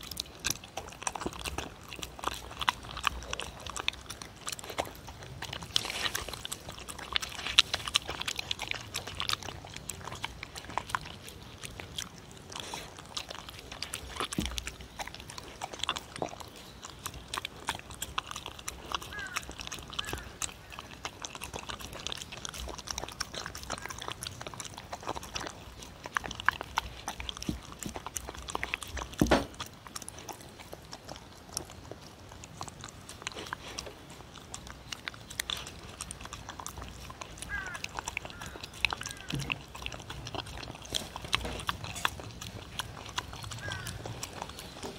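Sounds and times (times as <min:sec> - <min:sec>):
dog chewing food: 0:00.0 - 0:44.9.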